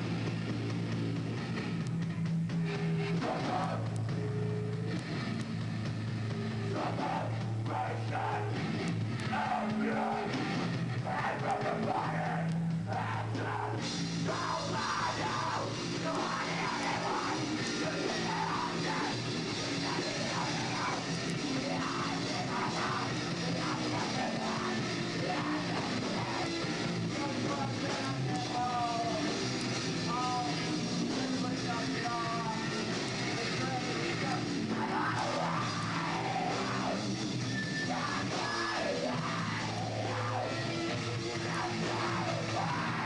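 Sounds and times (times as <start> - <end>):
drum kit: 0.0 - 43.0
electric guitar: 0.0 - 43.0.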